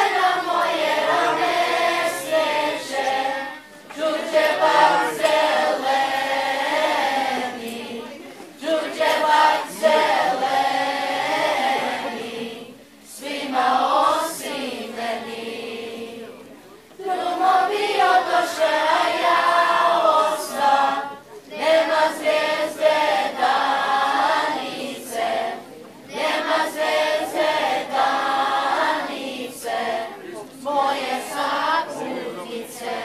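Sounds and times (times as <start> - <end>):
children's choir singing: 0.0 - 33.0.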